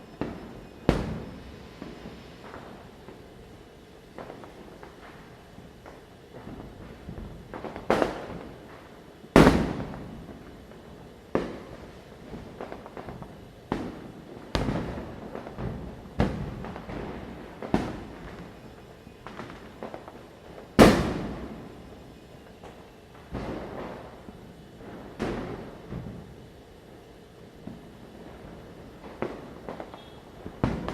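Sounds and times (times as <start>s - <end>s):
firecrackers bursting: 0.0s - 30.9s.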